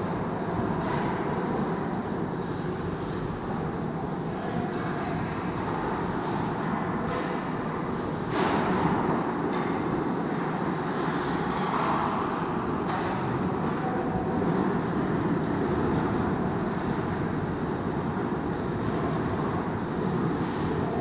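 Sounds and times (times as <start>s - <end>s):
ice hockey game ambience: 0.0s - 21.0s.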